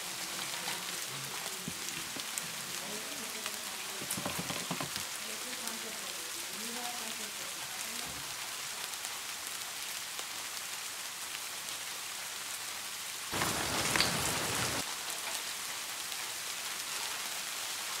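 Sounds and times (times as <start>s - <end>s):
crackling hiss: 0.0s - 12.6s, 13.2s - 18.0s.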